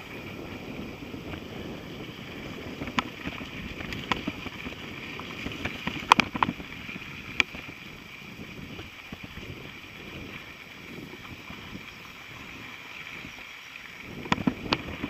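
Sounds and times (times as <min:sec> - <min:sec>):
bike rattling over stones: 0:00.0 - 0:15.0
bike tyres on gravel: 0:00.0 - 0:15.0.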